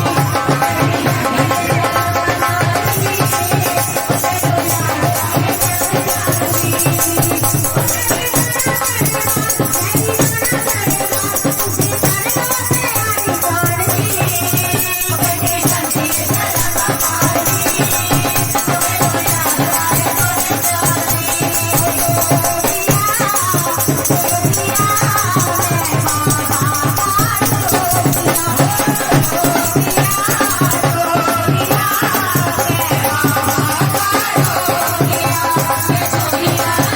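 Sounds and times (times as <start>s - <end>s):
steady percussion beat: 0.0s - 36.9s
wavering devotional melody: 0.0s - 36.9s.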